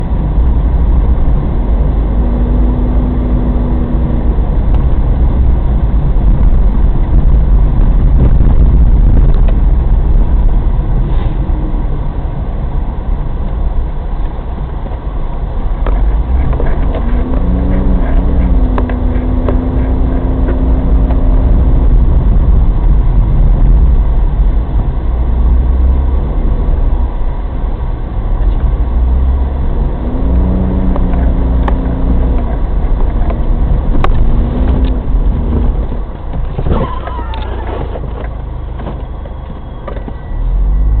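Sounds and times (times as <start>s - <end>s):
car engine revving: 0.0s - 12.1s, 15.6s - 41.0s
car driving low rumble: 0.0s - 41.0s.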